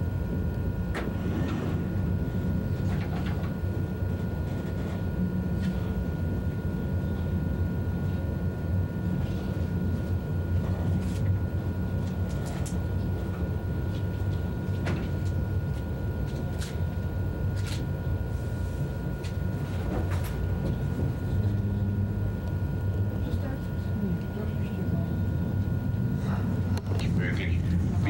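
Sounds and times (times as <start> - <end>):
train rumble inside car: 0.0 - 28.0.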